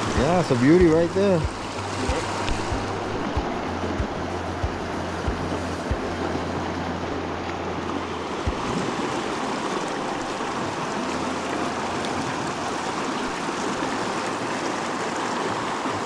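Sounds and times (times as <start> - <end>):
low hum: 0.0 - 15.4
stream flowing over rocks: 0.0 - 16.0.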